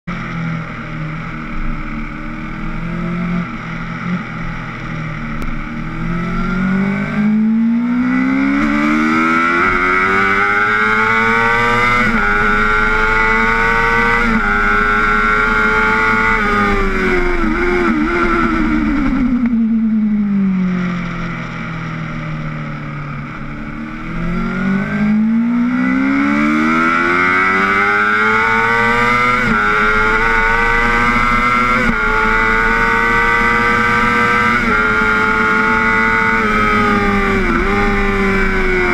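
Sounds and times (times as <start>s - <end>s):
motorcycle engine revving: 0.1s - 38.9s.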